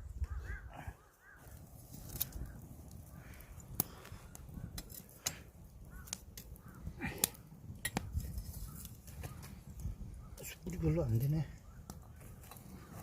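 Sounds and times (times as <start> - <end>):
faint birds calling: 0.0 - 13.0
low fire rumble: 0.0 - 13.0
wood fire crackling: 0.0 - 13.0.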